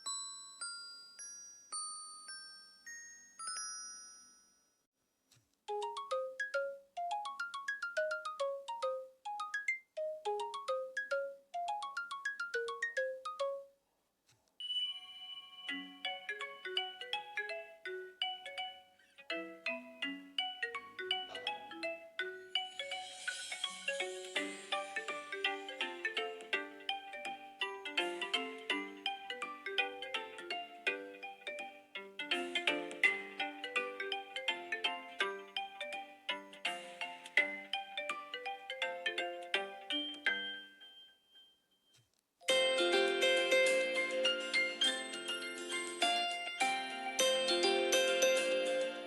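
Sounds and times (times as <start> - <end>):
phone ringtone melodies: 5.7 - 13.8, 14.6 - 41.8, 42.4 - 49.0.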